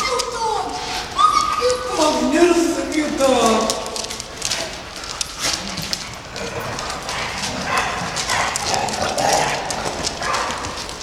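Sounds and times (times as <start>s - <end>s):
dog nails clicking on hard floor: 0.0s - 11.0s.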